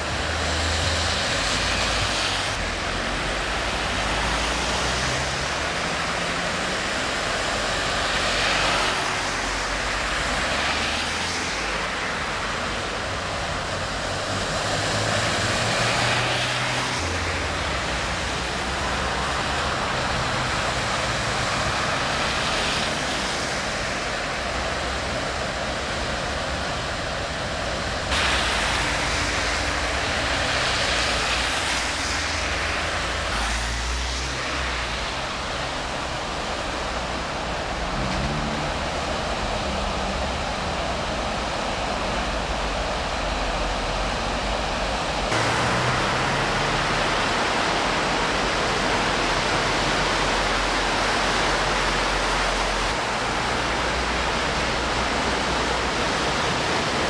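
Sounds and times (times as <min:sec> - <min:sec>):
car engines humming: 0:00.0 - 0:57.0
rushing water: 0:00.0 - 0:57.0
tyres splashing through floodwater: 0:00.0 - 0:57.0.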